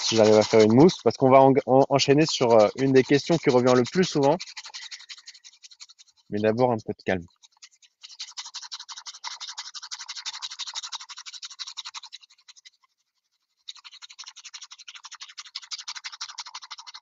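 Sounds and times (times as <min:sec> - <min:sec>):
bamboo whisk whisking in bowl: 0:00.0 - 0:17.0.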